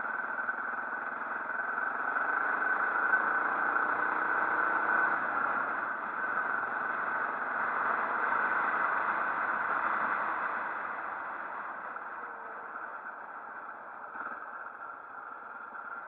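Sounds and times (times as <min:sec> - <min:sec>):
motorcycle engine: 0:00.0 - 0:16.0
wind and road noise: 0:00.0 - 0:16.0.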